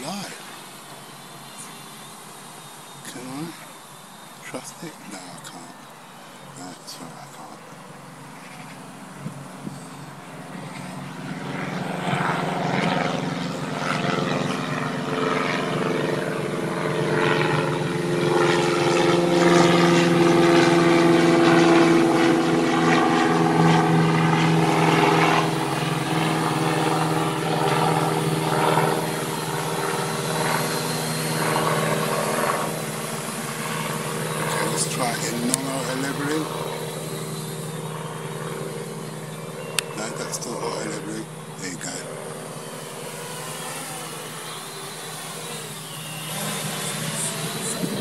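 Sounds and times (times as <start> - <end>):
drone propellers humming: 0.0 - 48.0.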